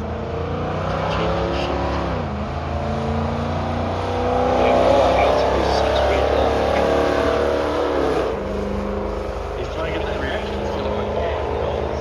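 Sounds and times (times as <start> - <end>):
racing engine accelerating: 0.0 - 12.0.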